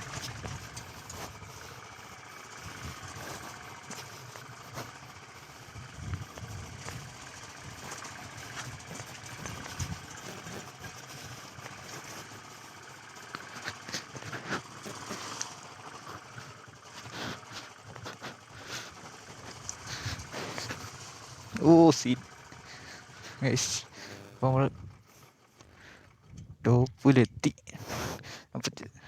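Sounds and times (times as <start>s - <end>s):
motorcycle engine at low revs: 0.0s - 29.0s.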